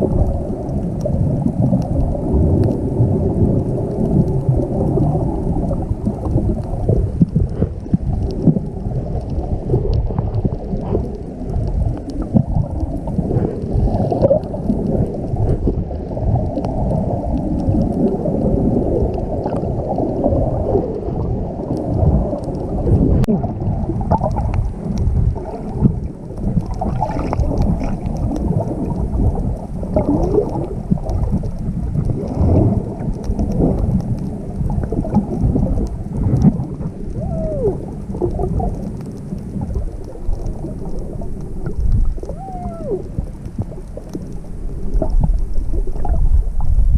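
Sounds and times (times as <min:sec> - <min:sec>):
clicks and gurgles: 0:00.0 - 0:46.9
muffled underwater rumble: 0:00.0 - 0:46.9.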